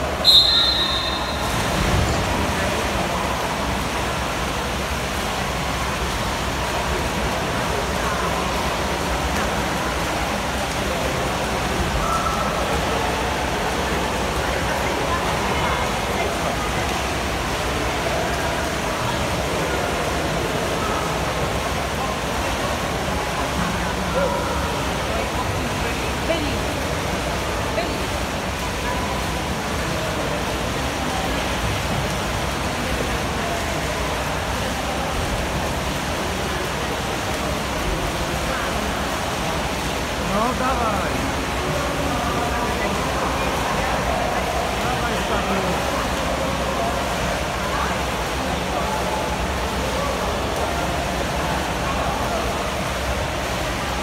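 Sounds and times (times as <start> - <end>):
swimmers splashing water: 0.0 - 54.0.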